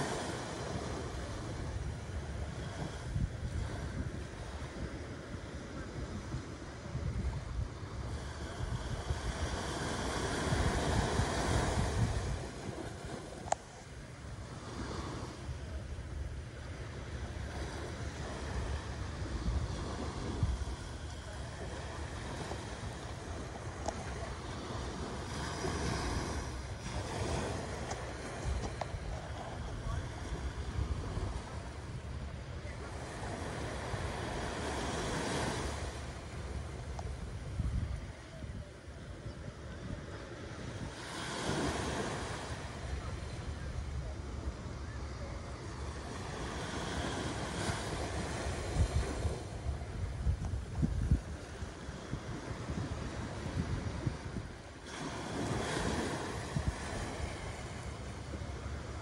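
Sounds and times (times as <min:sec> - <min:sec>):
small waves washing on sand: 0:00.0 - 0:59.0
wind rumble on microphone: 0:00.0 - 0:59.0.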